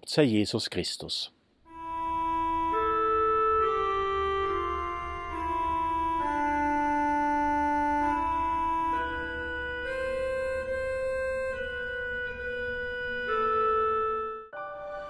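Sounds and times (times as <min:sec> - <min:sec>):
slow organ chords: 0:01.7 - 0:15.0.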